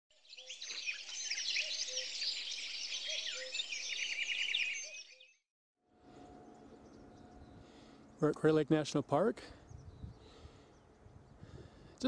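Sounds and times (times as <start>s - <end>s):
birds chirping and trilling: 0.2s - 5.4s, 6.0s - 12.0s.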